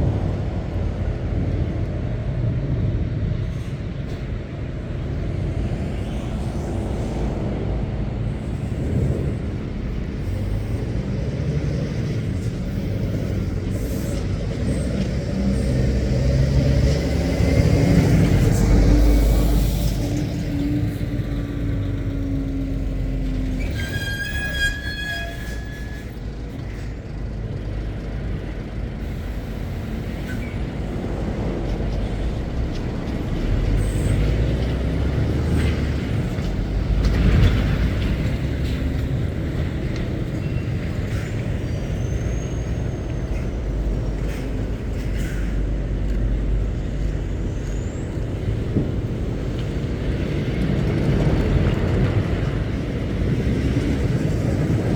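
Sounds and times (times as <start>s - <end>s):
trucks passing: 0.0s - 24.6s, 25.3s - 54.9s.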